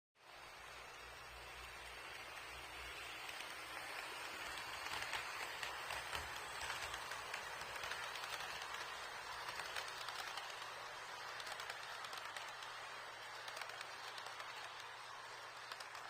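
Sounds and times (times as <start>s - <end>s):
model train wheels hissing on rail: 0.2s - 16.0s
fast patter of small clicks: 1.5s - 16.0s.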